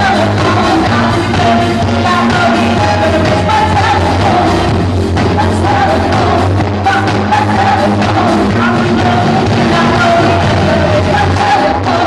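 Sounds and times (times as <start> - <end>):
drum kit: 0.0 - 12.0
electric guitar: 0.0 - 12.0
women singing: 0.0 - 12.0.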